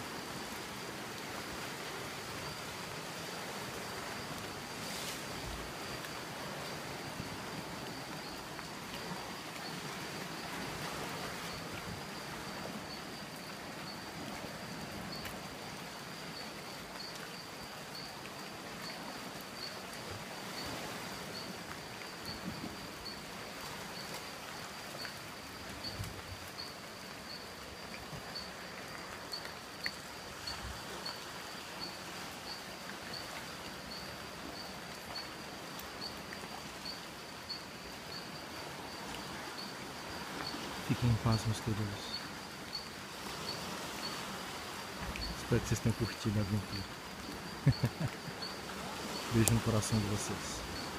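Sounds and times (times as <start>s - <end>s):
insect pulsing call: 0.0s - 50.9s
rain falling on leaves: 0.0s - 50.9s
surf washing on rocks: 0.0s - 50.9s.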